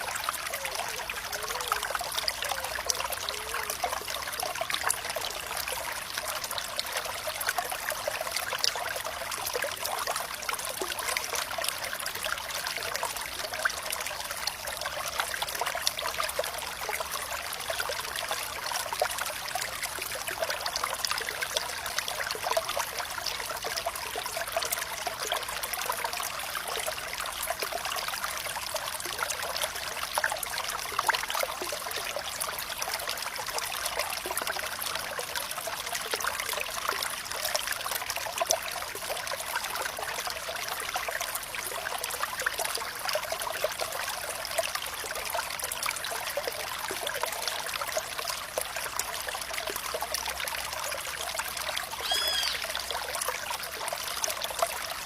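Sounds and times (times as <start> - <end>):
water flowing and trickling: 0.0 - 55.0.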